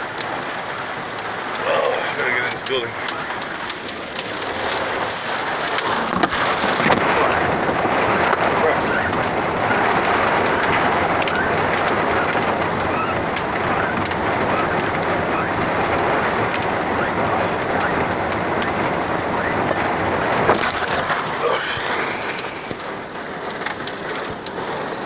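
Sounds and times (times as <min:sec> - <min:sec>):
hailstones ticking on surfaces: 0:00.0 - 0:25.0
heavy rain: 0:00.0 - 0:25.0.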